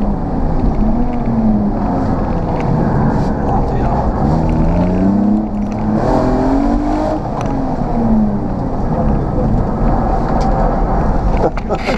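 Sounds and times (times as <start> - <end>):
car engine accelerating: 0.0 - 11.9
road and wind rumble: 0.0 - 11.9.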